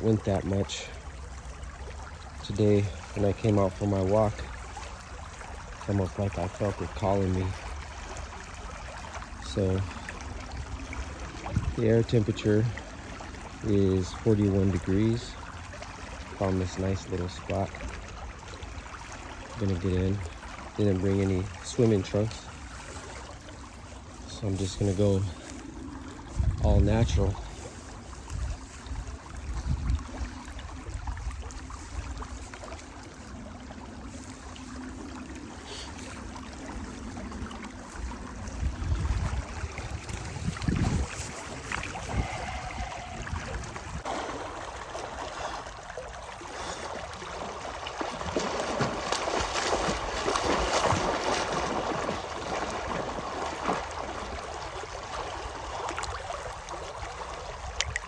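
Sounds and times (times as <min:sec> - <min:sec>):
water trickling and sloshing: 0:00.0 - 0:58.0.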